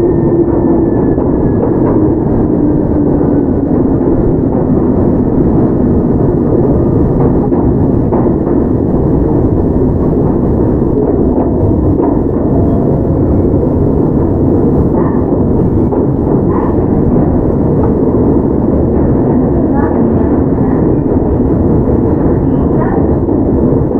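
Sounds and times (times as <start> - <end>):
wheels rumbling on rail: 0.0 - 23.9.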